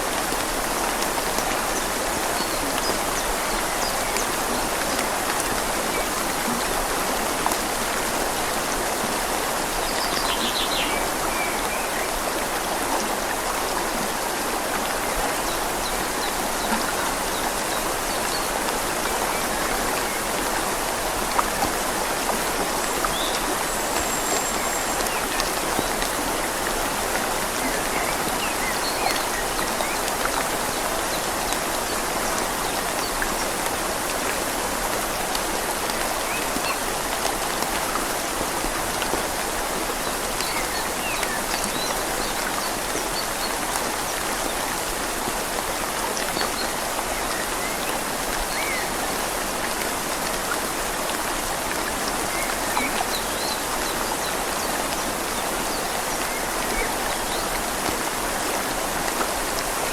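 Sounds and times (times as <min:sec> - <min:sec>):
rain falling on leaves: 0:00.0 - 0:59.9
river flowing: 0:00.0 - 0:59.9.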